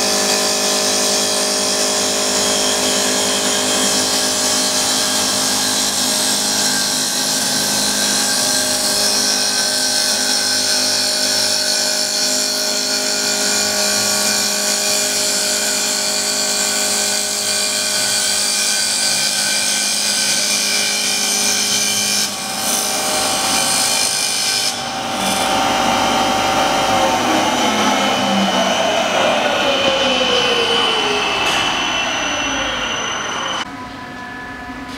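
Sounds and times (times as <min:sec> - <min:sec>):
cutter shaving spinning wood: 0:00.0 - 0:33.6
lathe spindle motor whine: 0:00.0 - 0:34.9.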